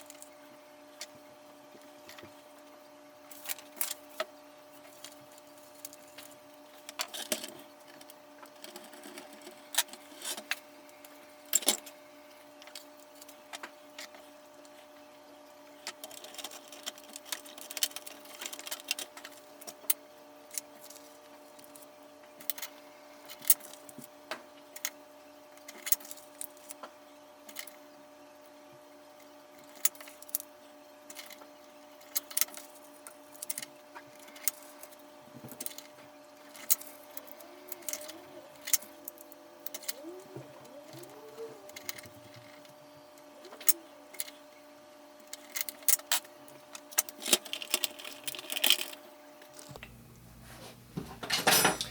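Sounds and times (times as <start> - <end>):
steady electrical hum: 0.0 - 51.9.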